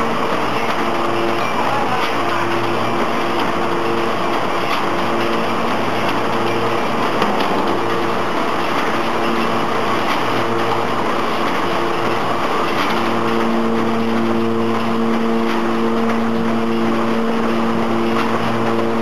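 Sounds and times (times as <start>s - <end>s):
machine humming tones: 0.0s - 19.0s
machine mechanical din: 0.0s - 19.0s.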